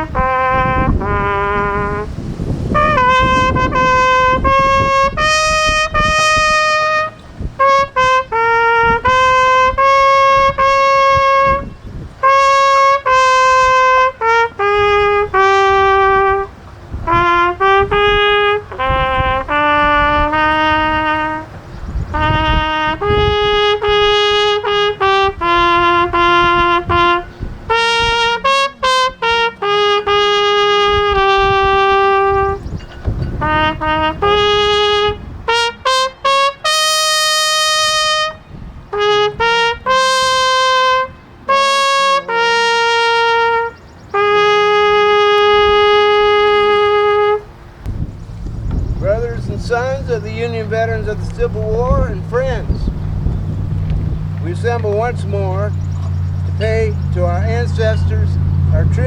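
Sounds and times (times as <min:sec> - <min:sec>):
solo trumpet melody: 0:00.0 - 0:59.0.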